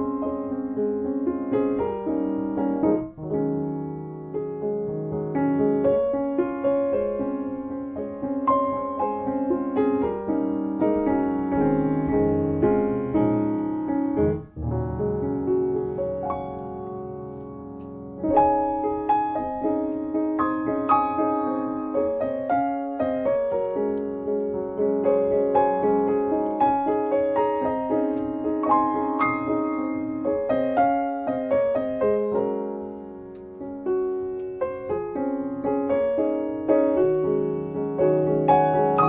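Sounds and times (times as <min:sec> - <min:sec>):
piano music: 0:00.0 - 0:39.0.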